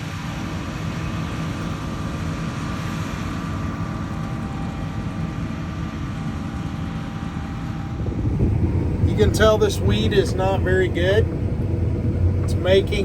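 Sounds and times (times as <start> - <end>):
combine harvester machinery hum: 0.0 - 13.0.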